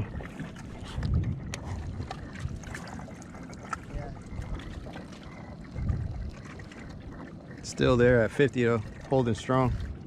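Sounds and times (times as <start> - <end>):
water lapping against kayak hull: 0.0 - 10.0
wind on microphone: 0.0 - 10.0.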